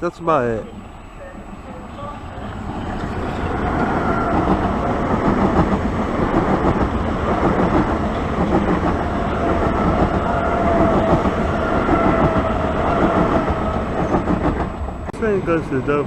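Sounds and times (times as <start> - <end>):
electric train whine: 0.0 - 16.0
train wheels clattering over rail joints: 2.4 - 16.0.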